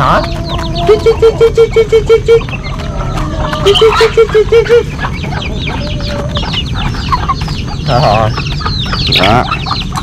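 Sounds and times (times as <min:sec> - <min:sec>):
chicks peeping: 0:00.0 - 0:10.0
warbling calls of bigger birds: 0:00.0 - 0:10.0.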